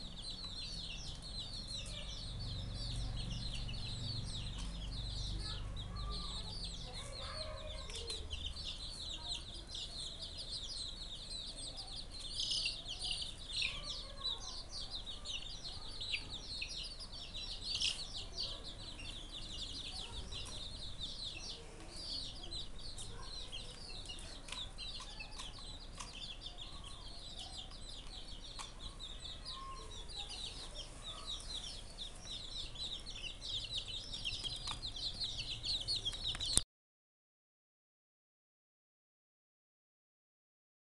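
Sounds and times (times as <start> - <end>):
chicks peeping: 0.0 - 36.6.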